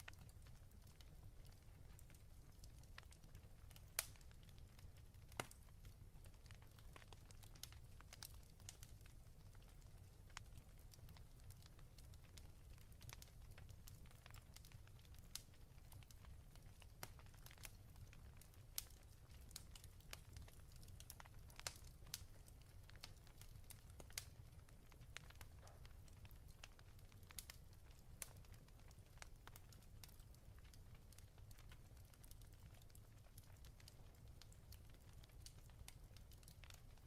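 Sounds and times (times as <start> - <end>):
fireplace fire crackling: 0.0 - 37.0.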